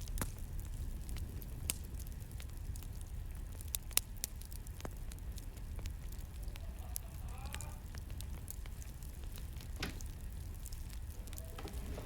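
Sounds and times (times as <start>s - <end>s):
crackling campfire: 0.0s - 12.0s
fire popping: 0.0s - 12.0s.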